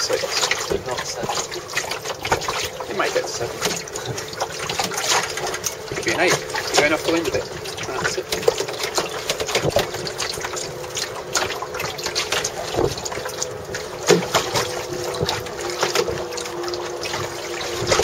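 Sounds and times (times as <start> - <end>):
water slapping against boat hull: 0.0 - 18.0.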